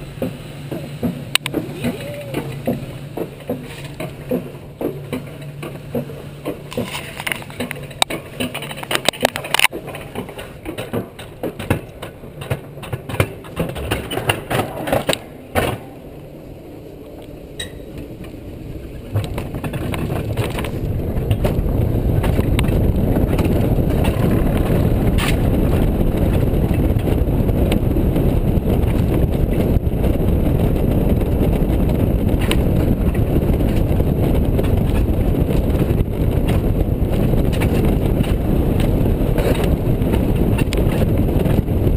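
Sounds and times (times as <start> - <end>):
coaster sled rumbling on rail: 0.0 - 41.9
rush of wind: 0.0 - 41.9.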